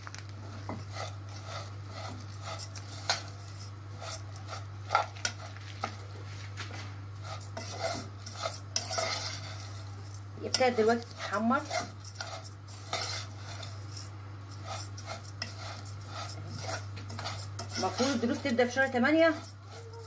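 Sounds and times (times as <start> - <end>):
metal spoon scraping a pot: 0.7 - 6.1, 7.2 - 20.0.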